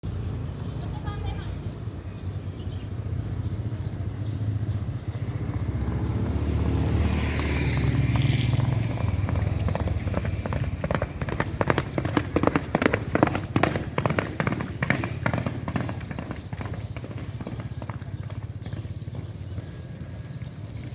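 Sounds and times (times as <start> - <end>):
horses galloping hoofbeats: 3.2 - 20.9.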